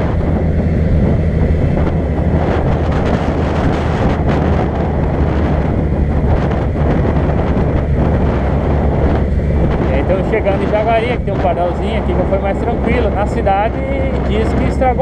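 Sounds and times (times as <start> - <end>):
car road and engine noise: 0.0 - 15.0
wind buffeting microphone: 0.0 - 15.0.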